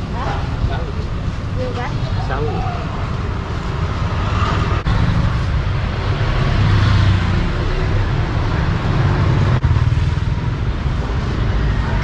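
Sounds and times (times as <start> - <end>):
vehicles passing close by: 0.0 - 12.0.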